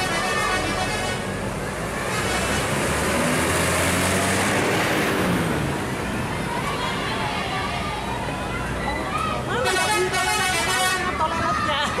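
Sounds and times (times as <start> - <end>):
tyre and road noise: 0.0 - 12.0.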